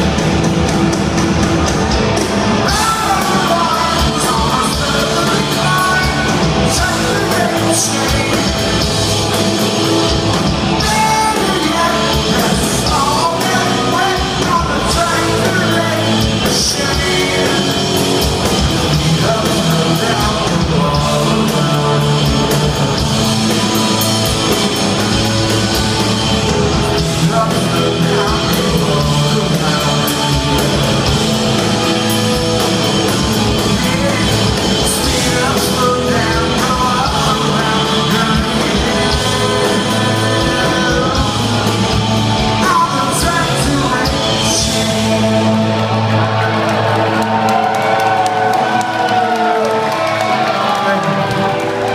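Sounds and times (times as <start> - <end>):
live rock band playing: 0.0 - 51.9
male singer: 2.5 - 24.0, 26.8 - 46.5, 49.0 - 51.9.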